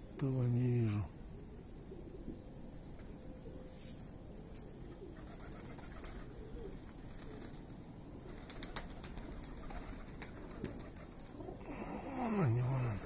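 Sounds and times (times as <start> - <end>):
pigeons cooing: 0.8 - 13.0.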